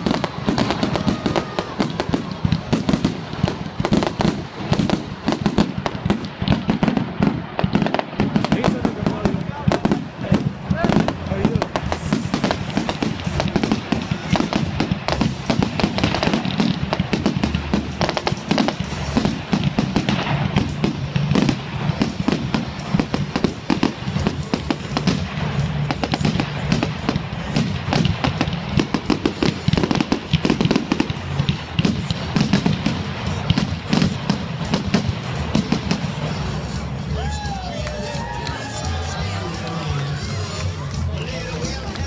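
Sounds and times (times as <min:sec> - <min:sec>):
fireworks launching and crackling: 0:00.0 - 0:42.0.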